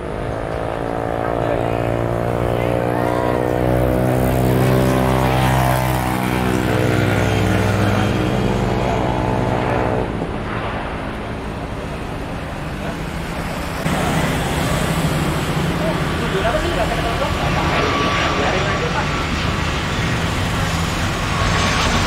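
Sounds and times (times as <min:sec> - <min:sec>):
jet engines droning: 0:00.0 - 0:22.0.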